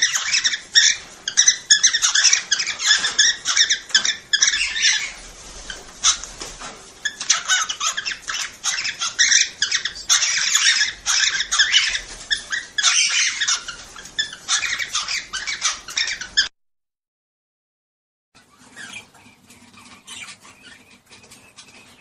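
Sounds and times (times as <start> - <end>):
cockatiels chattering and chirping: 0.0 - 16.5, 18.4 - 22.0.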